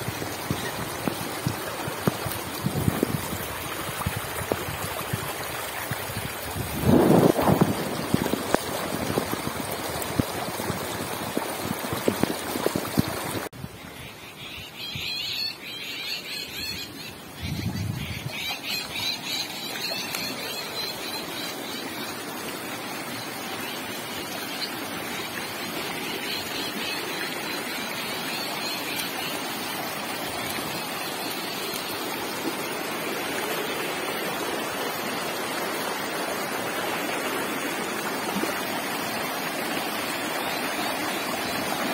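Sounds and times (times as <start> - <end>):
floodwater rushing: 0.0 - 13.5, 15.7 - 41.9.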